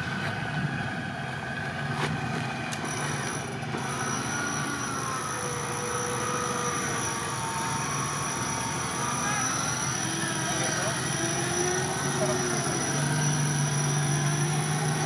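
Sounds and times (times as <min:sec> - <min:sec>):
off-road engine running: 0:00.0 - 0:15.0.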